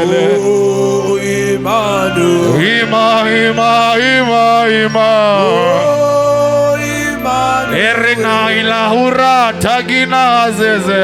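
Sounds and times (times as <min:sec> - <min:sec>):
man singing chant-like notes: 0:00.0 - 0:11.0
sustained low chords: 0:00.0 - 0:11.0.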